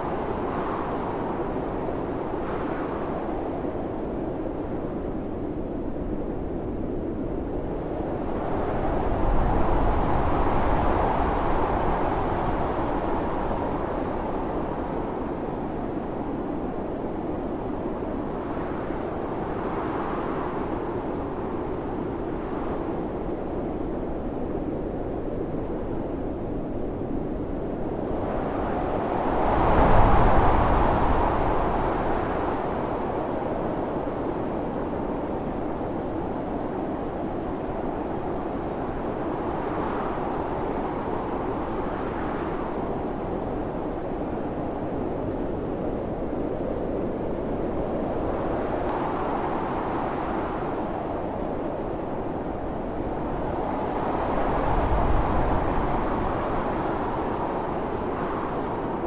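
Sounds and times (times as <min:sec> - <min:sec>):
howling blizzard wind: 0:00.0 - 0:59.0.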